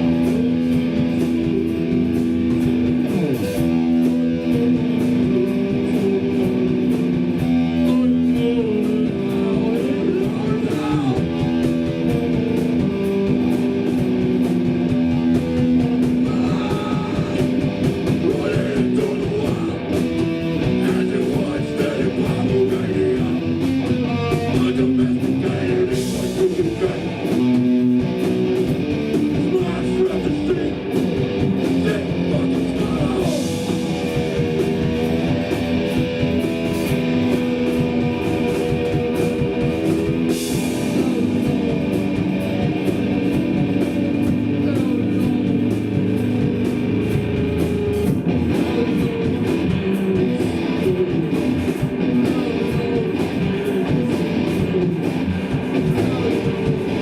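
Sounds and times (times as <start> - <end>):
drum beat with cymbal hits: 0.0 - 57.0
electric guitars holding chords: 0.0 - 57.0.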